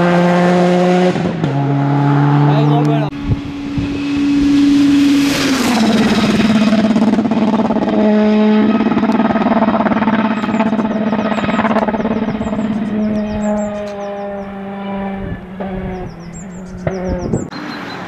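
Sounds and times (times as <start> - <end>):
rally car engine running hard: 0.0 - 17.4.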